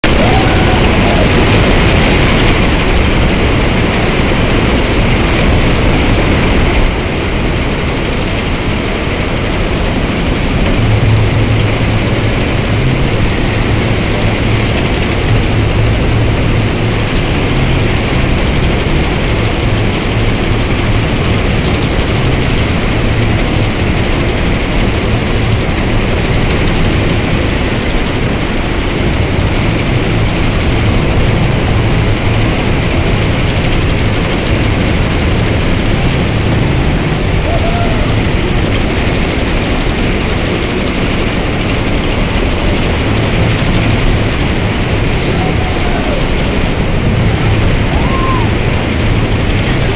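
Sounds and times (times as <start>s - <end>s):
fairground ride mechanical running: 0.0s - 49.9s
loud rush of noise: 0.0s - 49.9s
low even hum: 0.0s - 49.9s.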